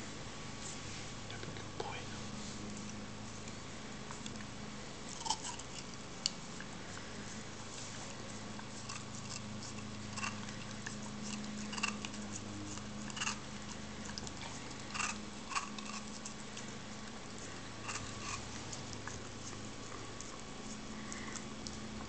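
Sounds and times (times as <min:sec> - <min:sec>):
low steady hum: 0:00.0 - 0:22.0
dog licking and biting: 0:02.7 - 0:22.0.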